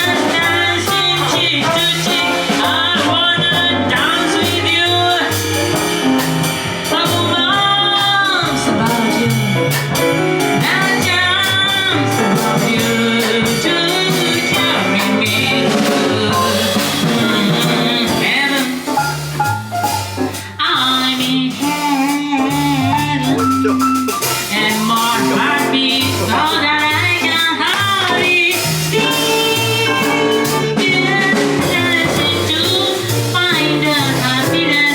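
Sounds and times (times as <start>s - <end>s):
jazz combo playing: 0.0s - 34.9s.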